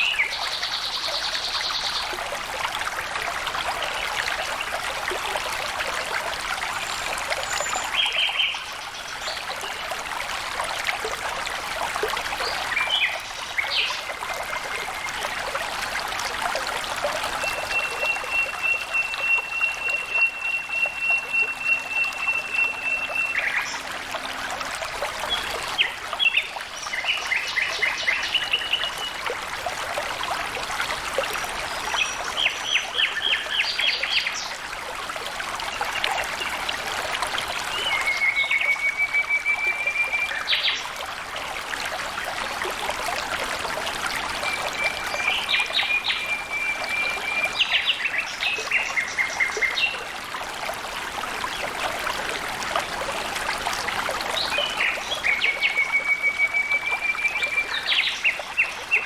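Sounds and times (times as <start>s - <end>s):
stream water flowing and splashing: 0.0s - 59.0s.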